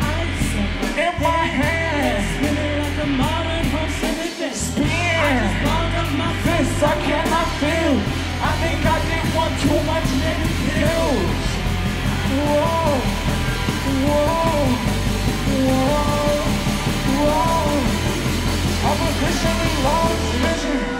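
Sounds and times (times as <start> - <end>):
person singing: 0.0 - 20.9
steady bass line: 0.0 - 20.9.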